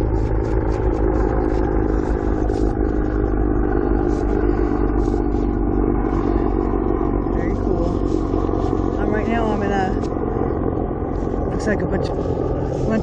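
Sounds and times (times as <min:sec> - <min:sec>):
airplane engine drone: 0:00.0 - 0:13.0.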